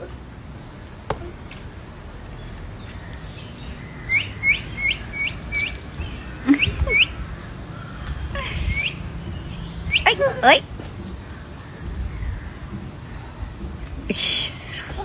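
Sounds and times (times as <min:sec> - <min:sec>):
low outdoor background: 0:00.0 - 0:15.0.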